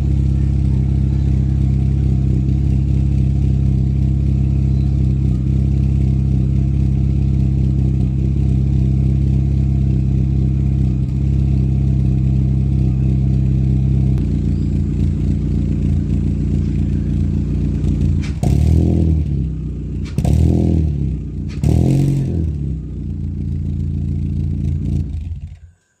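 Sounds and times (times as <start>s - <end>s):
car engine idling: 0.0s - 26.0s
engine throttle blips: 0.0s - 26.0s.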